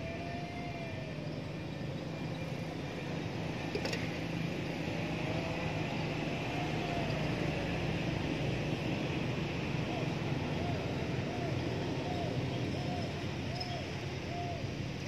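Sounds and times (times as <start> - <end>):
distant motor traffic hum: 0.0 - 15.0
faint engine whine: 0.0 - 15.0.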